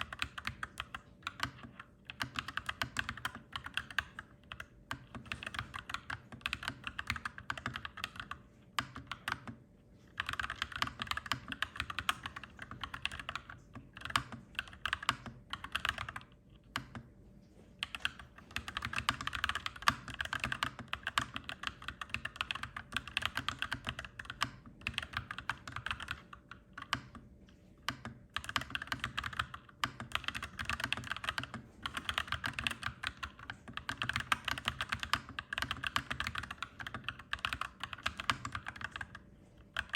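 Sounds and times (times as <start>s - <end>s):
mechanical keyboard typing: 0.0s - 17.1s, 17.8s - 27.2s, 27.8s - 39.9s
faint low hum: 0.0s - 39.9s.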